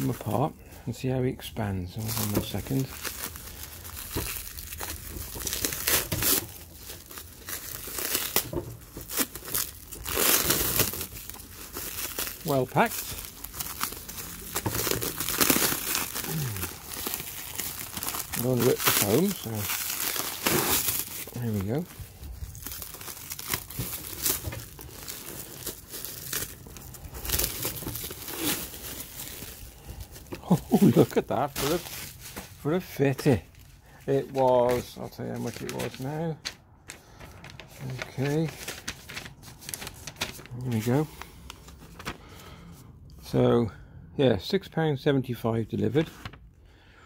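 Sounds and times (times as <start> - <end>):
plastic packaging crinkling: 1.9 - 42.2.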